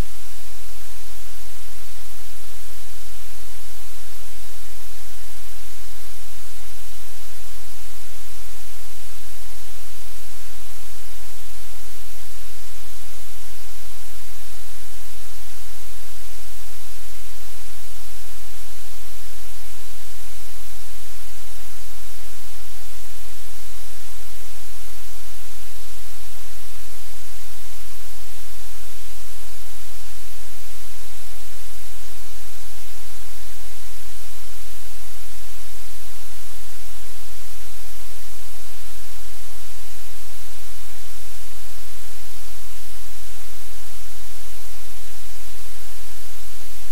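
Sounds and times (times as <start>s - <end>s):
static hiss: 0.0s - 46.9s.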